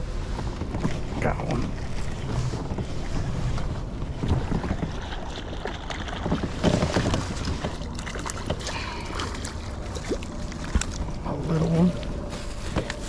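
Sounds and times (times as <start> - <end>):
water noise: 0.0 - 13.0
wind rumble on microphone: 0.0 - 13.0.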